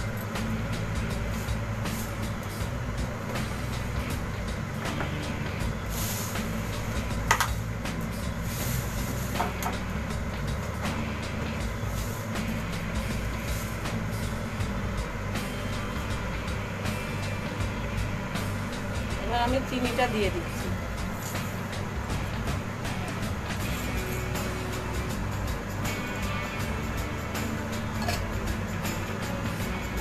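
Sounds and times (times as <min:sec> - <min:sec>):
cooktop electric hum and fan: 0:00.0 - 0:30.0.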